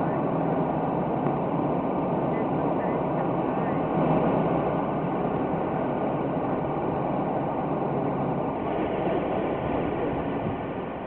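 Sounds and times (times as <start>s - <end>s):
aircraft auxiliary power unit drone: 0.0s - 11.0s.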